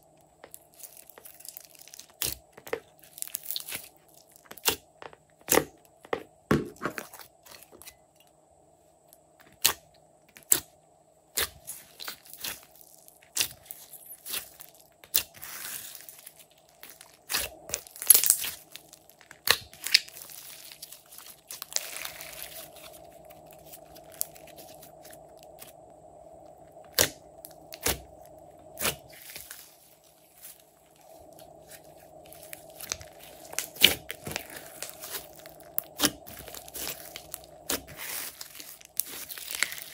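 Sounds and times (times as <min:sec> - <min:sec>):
slime squelching: 0:00.4 - 0:07.9, 0:11.3 - 0:25.8, 0:26.8 - 0:39.9.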